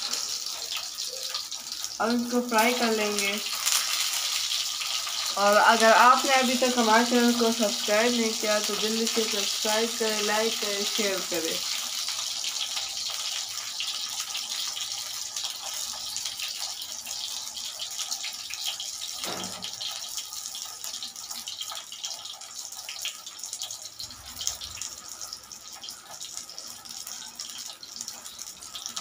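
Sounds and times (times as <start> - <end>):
kebabs sizzling in hot oil: 0.0 - 29.0.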